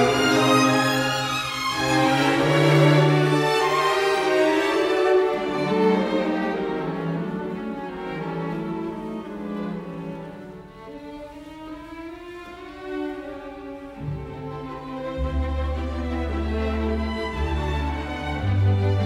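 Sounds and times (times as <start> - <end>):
violin and cello slow notes: 0.0 - 19.0.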